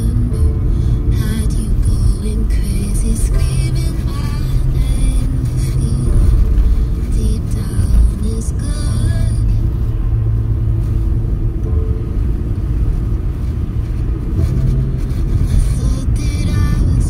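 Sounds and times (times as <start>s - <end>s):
car engine hum: 0.0s - 17.0s
road noise: 0.0s - 17.0s.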